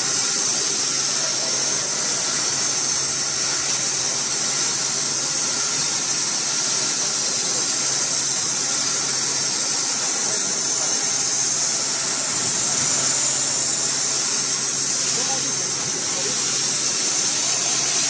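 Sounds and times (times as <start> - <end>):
sawmill motor whining: 0.0 - 18.0.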